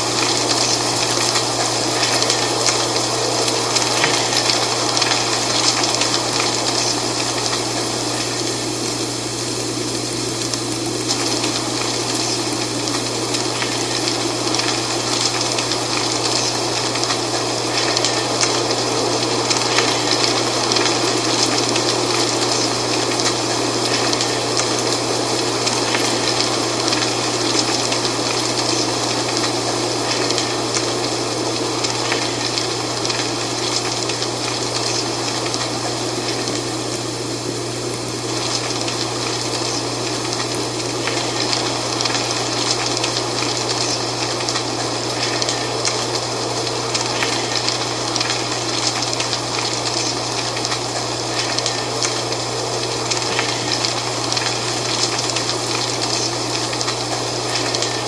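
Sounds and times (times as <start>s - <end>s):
dry leaves rustling in wind: 0.0s - 58.0s.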